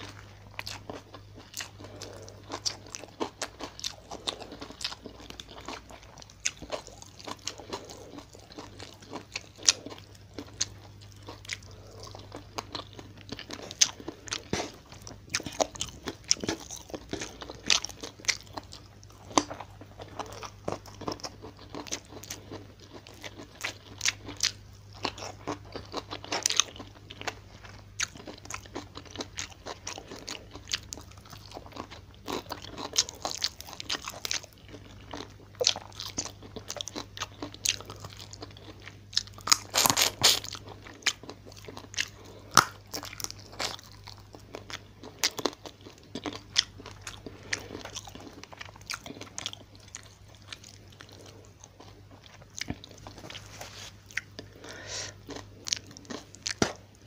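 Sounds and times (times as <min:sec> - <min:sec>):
chewing and crunching food: 0:00.0 - 0:57.0
faint low hum: 0:00.0 - 0:57.0.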